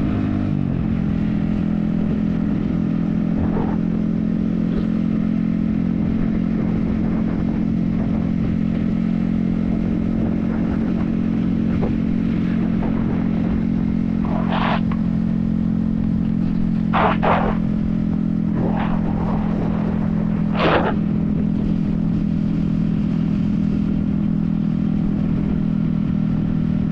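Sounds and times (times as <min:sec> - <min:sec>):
motorcycle engine cruising: 0:00.0 - 0:26.9.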